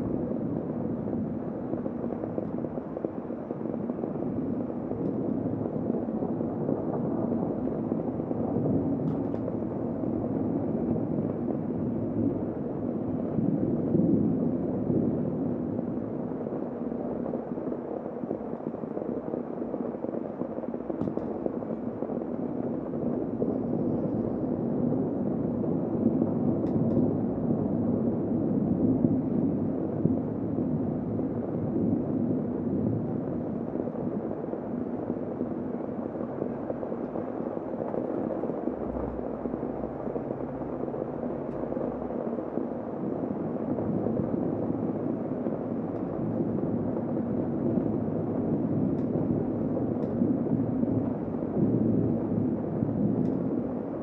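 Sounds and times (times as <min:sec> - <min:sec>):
muffled heavy rain: 0:00.0 - 0:54.0.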